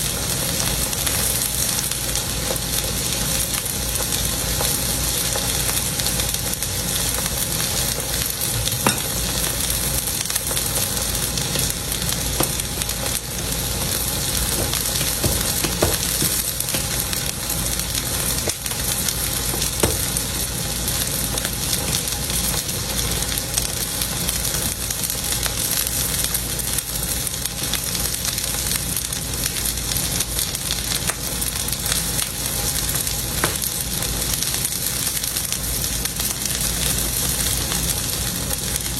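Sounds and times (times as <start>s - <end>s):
steak sizzling in pan: 0.0s - 38.9s.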